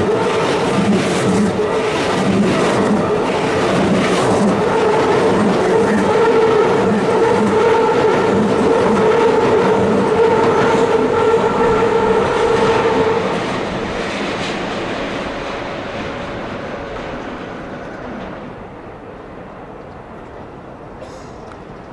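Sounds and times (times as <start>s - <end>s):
train wheel clatter: 0.0s - 18.6s.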